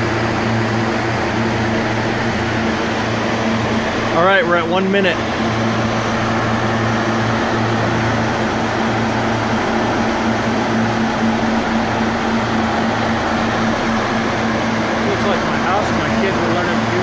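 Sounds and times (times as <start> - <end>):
foam generators rushing: 0.0 - 17.0
low hum: 0.0 - 17.0.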